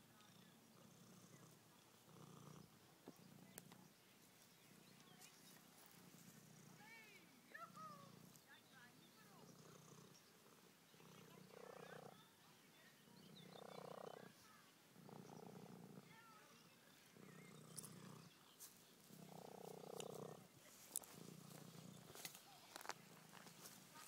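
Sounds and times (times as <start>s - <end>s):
cat purring: 0.0s - 7.0s, 9.2s - 12.4s, 13.0s - 24.0s.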